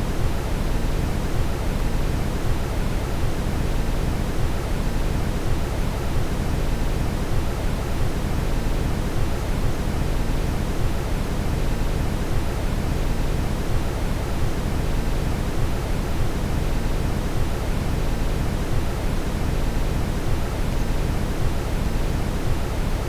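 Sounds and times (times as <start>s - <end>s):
steady brown noise: 0.0s - 23.0s.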